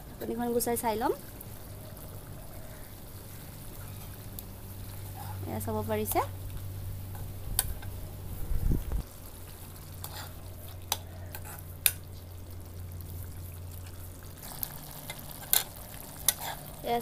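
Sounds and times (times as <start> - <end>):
faint frying sizzle: 0.0 - 17.0.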